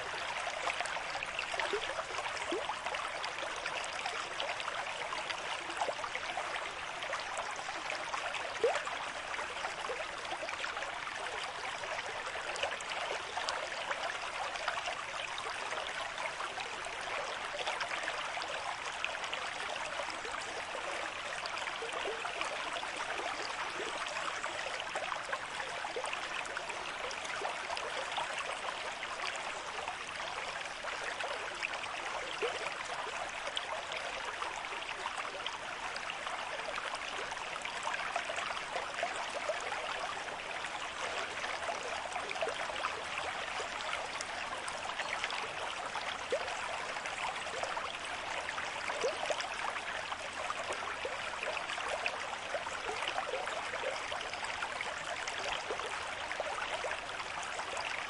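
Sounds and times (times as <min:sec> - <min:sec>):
stream water gurgling over stones: 0:00.0 - 0:58.0.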